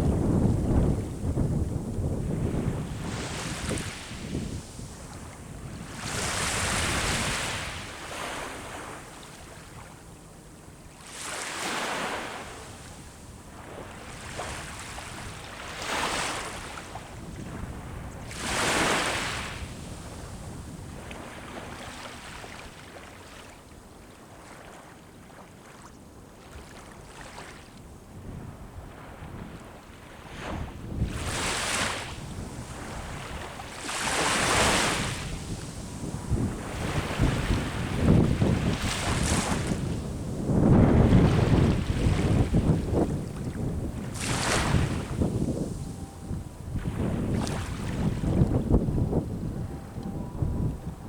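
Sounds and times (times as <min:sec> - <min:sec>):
sea waves breaking on shore: 0:00.0 - 0:51.0
wind rumble on microphone: 0:00.0 - 0:51.0.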